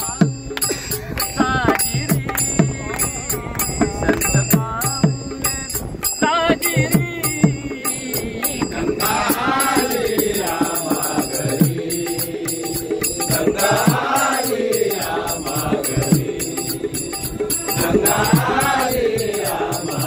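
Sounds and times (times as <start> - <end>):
men singing devotional song: 0.0 - 20.0
small hand cymbals beat: 0.0 - 20.0.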